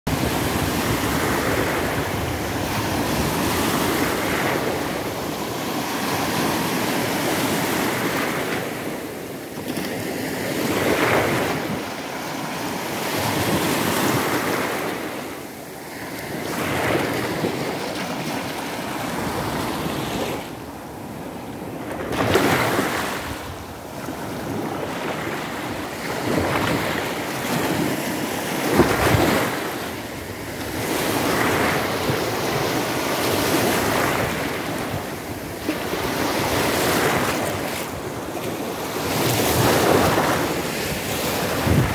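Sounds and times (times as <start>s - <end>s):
small waves breaking on sand: 0.1s - 41.9s.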